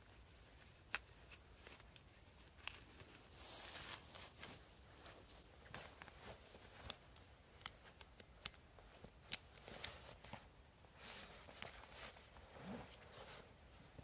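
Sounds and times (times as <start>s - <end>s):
soft rustling: 0.0s - 14.0s.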